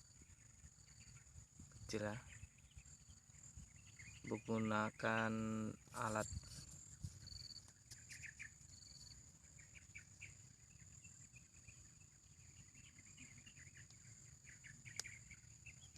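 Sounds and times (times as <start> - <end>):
distant birds chirping: 0.0 - 15.9.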